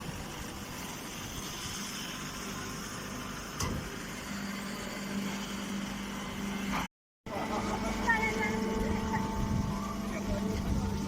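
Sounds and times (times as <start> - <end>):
baler machinery running: 0.0 - 11.0.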